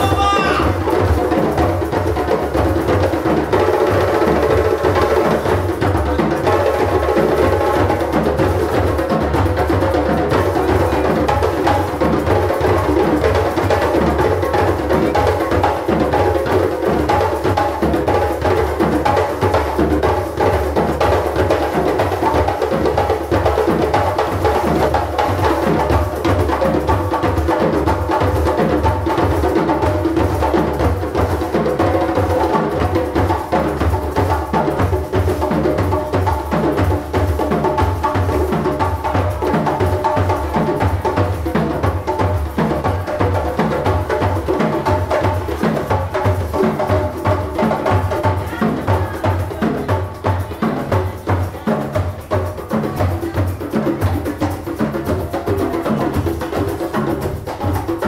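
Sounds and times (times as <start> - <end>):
hand drums playing: 0.0 - 58.0.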